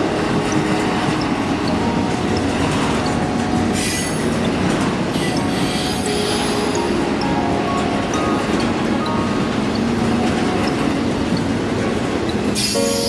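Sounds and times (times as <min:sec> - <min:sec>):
train wheels squealing on rails: 0:00.0 - 0:07.3, 0:09.1 - 0:13.0
freight train rumble: 0:00.0 - 0:13.0.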